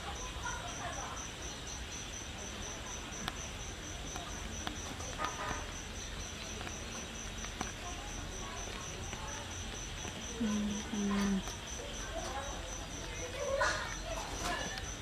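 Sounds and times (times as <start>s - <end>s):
cricket chirping: 0.0s - 15.0s
soft murmur: 0.0s - 15.0s
faint clicks: 2.6s - 15.0s.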